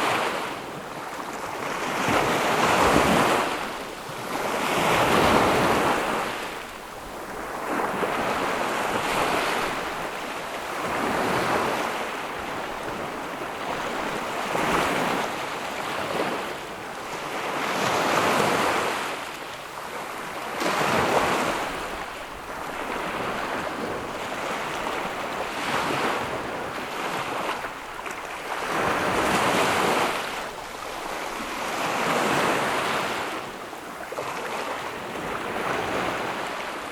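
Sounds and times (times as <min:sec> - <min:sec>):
ocean waves breaking on beach: 0:00.0 - 0:36.9
wind noise on microphone: 0:00.0 - 0:36.9.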